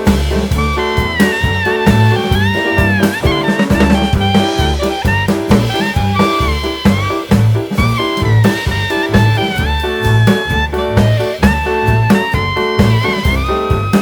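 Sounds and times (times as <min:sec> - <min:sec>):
bass line: 0:00.0 - 0:14.0
drum kit beat: 0:00.0 - 0:14.0
saxophone-like horn melody: 0:00.0 - 0:14.0.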